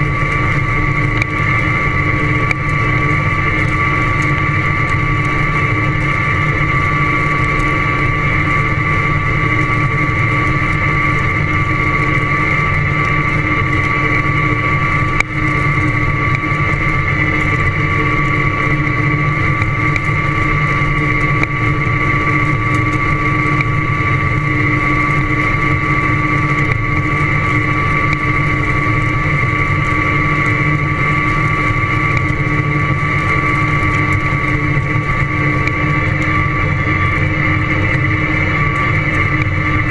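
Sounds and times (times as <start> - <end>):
high-pitched whine: 0.0 - 39.9.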